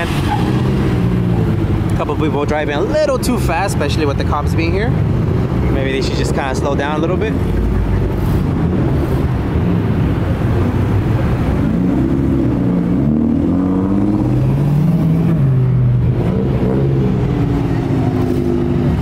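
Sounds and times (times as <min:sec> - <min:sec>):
cars revving past: 0:00.0 - 0:02.2, 0:04.8 - 0:19.0.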